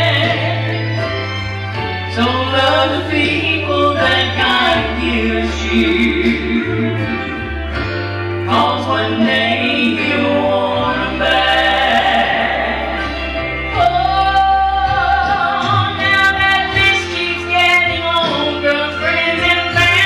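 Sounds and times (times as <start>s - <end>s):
person singing gospel song: 0.0s - 1.0s, 2.0s - 20.0s
low instrumental backing: 0.0s - 20.0s.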